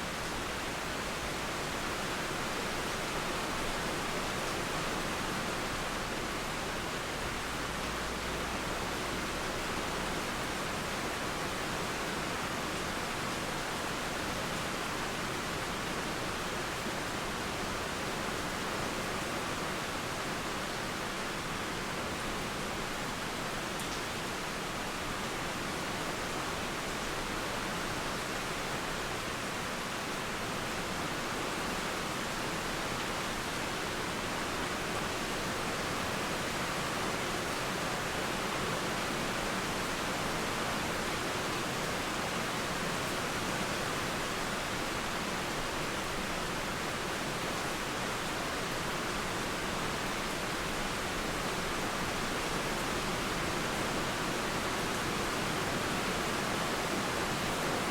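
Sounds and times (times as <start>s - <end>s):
river water flowing: 0.0s - 57.9s
steady rain: 0.0s - 57.9s.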